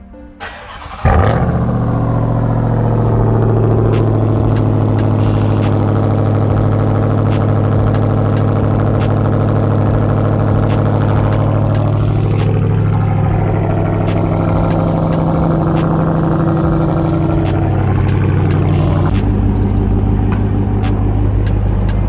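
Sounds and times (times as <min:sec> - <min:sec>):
truck engine idling: 0:00.4 - 0:22.0.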